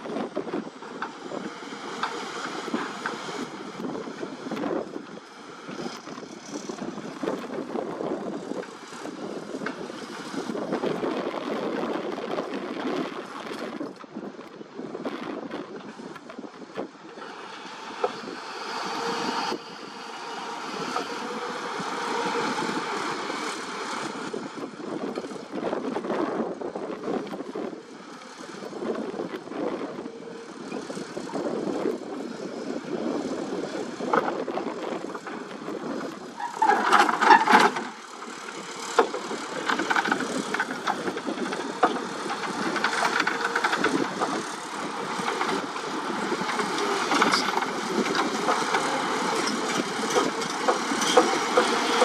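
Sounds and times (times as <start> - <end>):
excavator engine and hydraulics: 0.0 - 52.0.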